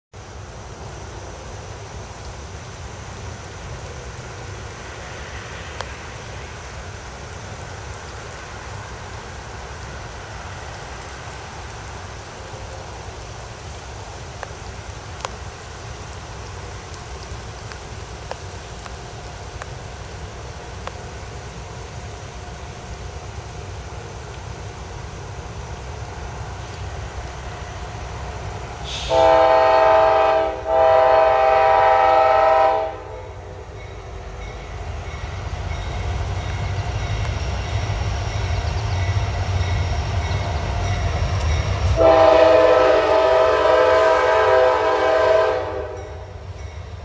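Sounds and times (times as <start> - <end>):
heavy rain: 0.1 - 47.0
distant diesel locomotives rumbling: 0.2 - 47.0.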